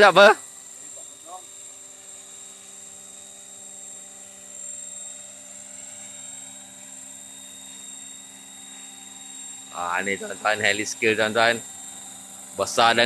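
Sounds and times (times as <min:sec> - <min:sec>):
rc helicopter motor whine: 0:00.0 - 0:13.0.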